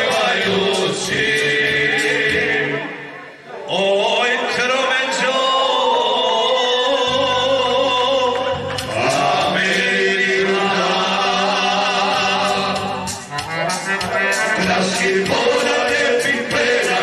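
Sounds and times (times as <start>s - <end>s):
male vocal group singing: 0.0s - 17.0s.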